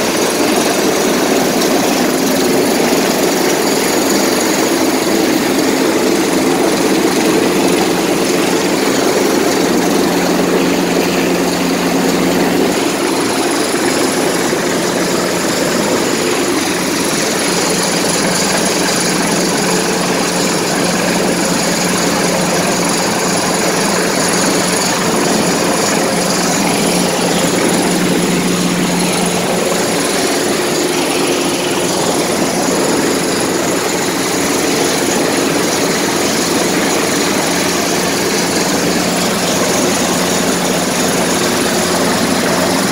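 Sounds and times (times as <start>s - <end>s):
helicopter rotor and turbine noise: 0.0s - 42.9s
rush of rotor downwash: 0.0s - 42.9s
high whine: 1.0s - 35.7s.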